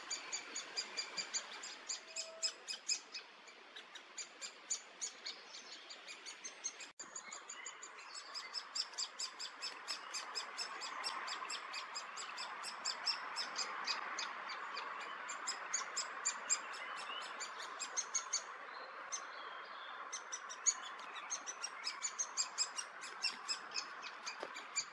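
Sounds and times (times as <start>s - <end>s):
woodpeckers calling: 0.0s - 18.5s, 20.1s - 24.9s.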